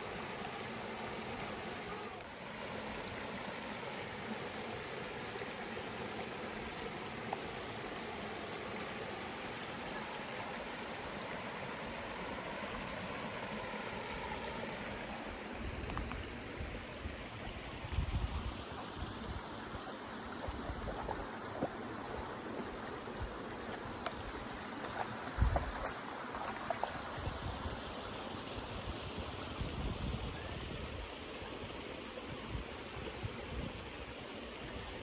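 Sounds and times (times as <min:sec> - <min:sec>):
mountain creek babbling: 0:00.0 - 0:35.0.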